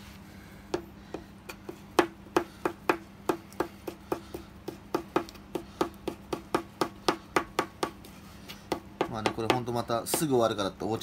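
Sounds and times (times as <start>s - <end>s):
knife chopping on cutting board: 0.7s - 10.4s.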